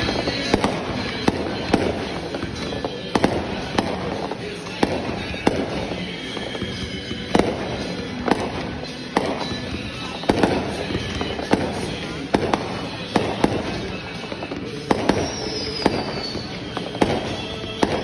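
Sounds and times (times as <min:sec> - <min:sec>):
fireworks bangs: 0:00.0 - 0:18.0
noisy background: 0:00.0 - 0:18.0.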